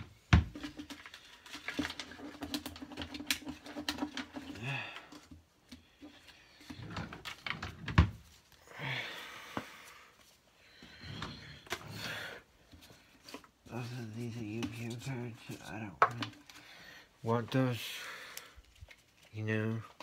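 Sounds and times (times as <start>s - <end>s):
cards and items being rummaged: 0.0s - 8.6s, 11.2s - 20.0s.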